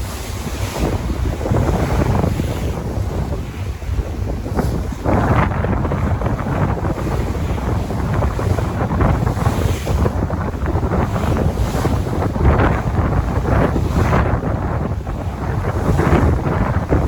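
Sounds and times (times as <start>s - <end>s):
sea waves washing in: 0.0s - 17.0s
wind buffeting microphone: 0.0s - 17.0s.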